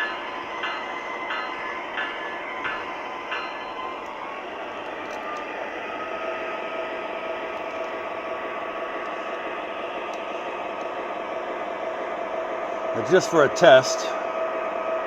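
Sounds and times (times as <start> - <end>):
model train motor hum and hiss: 0.0 - 15.0.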